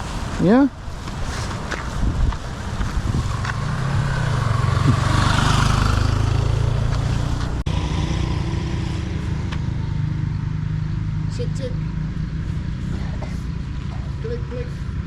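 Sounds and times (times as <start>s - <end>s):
motorcycle engine running: 2.8s - 15.0s.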